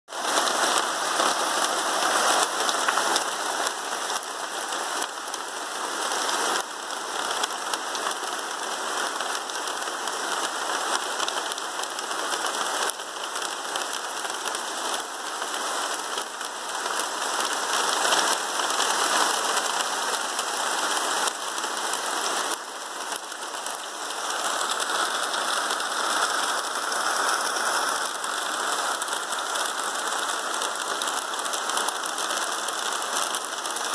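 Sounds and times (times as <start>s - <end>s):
hailstones striking pavement: 0.2s - 33.9s.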